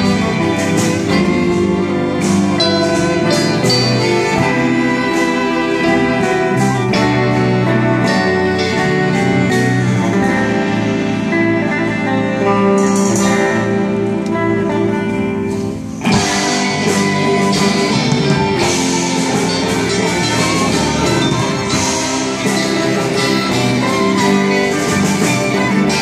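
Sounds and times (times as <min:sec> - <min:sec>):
drums and cymbals: 0:00.0 - 0:26.0
live band playing: 0:00.0 - 0:26.0.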